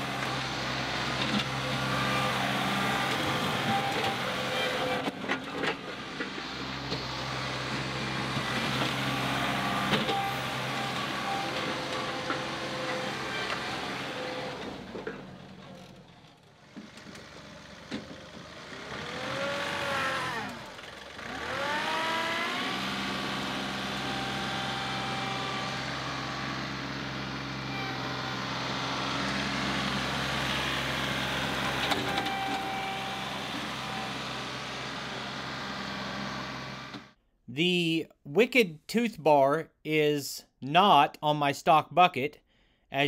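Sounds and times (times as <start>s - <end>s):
tractor diesel engine: 0.0s - 40.2s.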